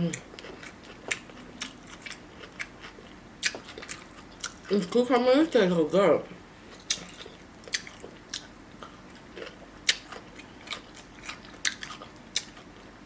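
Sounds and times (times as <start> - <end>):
crunchy cucumber chewing: 0.0 - 4.7, 6.8 - 13.0.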